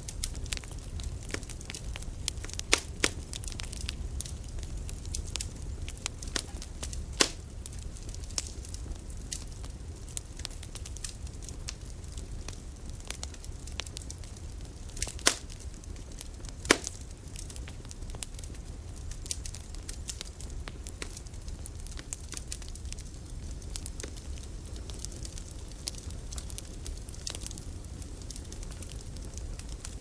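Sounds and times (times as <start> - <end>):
campfire crackling: 0.0 - 30.0
fire low rumble: 0.0 - 30.0
loud fire pops: 0.0 - 30.0.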